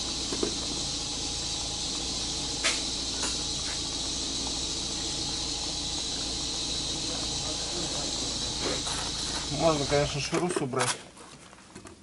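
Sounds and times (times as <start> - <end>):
high-pitched hiss: 0.0 - 10.4.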